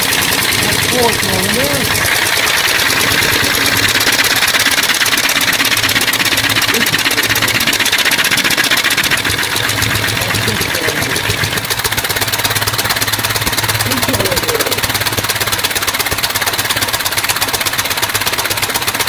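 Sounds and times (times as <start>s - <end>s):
compressed-air engine running: 0.0s - 19.0s.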